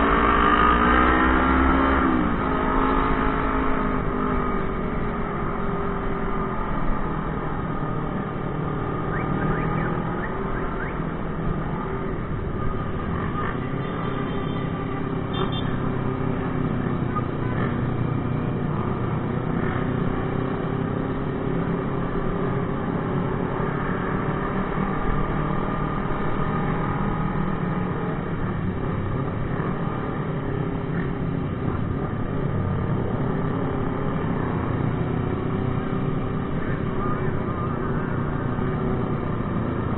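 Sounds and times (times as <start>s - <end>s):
motorcycle engines riding: 0.0s - 39.9s.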